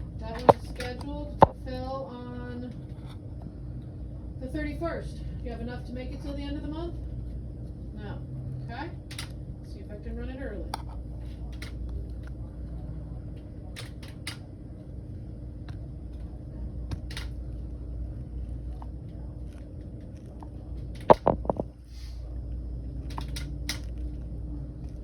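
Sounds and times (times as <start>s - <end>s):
room ventilation hum: 0.0s - 25.0s.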